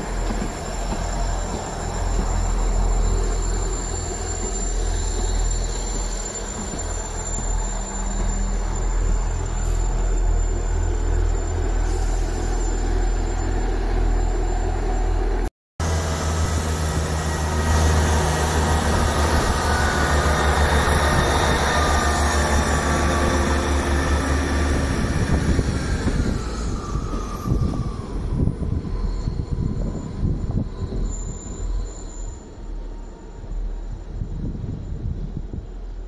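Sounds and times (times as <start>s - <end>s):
wheel and rail noise: 0.0s - 36.0s.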